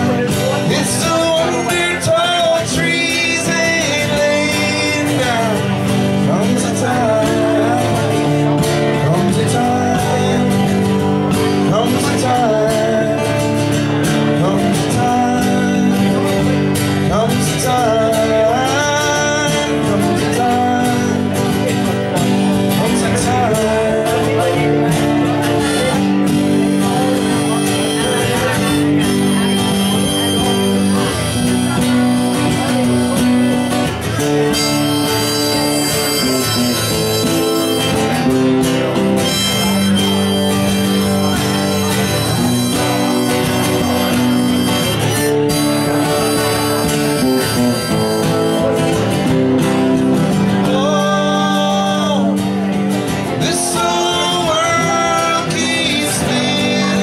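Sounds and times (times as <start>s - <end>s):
acoustic guitars: 0.0s - 57.0s
person singing: 0.0s - 57.0s.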